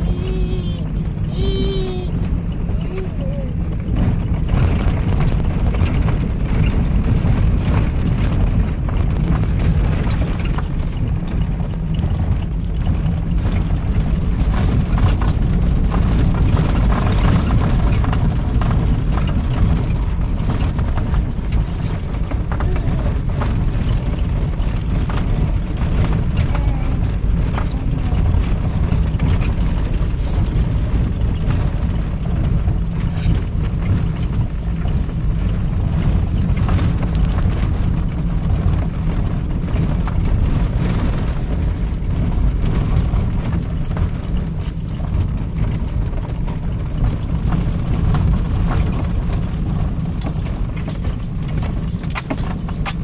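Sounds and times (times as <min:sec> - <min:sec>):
engine and tyre rumble: 0:00.0 - 0:53.0
light knocks and rattles: 0:00.0 - 0:53.0.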